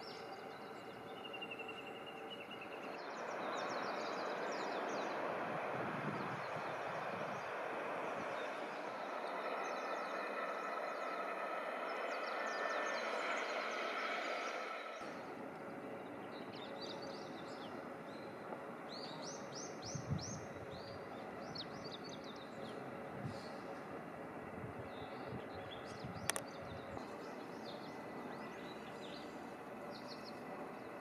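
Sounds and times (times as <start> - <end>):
small birds chirping: 0.0 - 23.9, 24.8 - 31.0
steady outdoor noise: 0.0 - 31.0.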